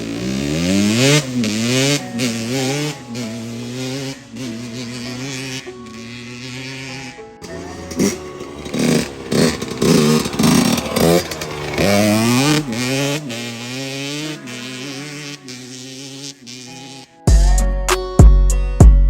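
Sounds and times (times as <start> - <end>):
dirt bike engine revving: 0.0 - 17.3.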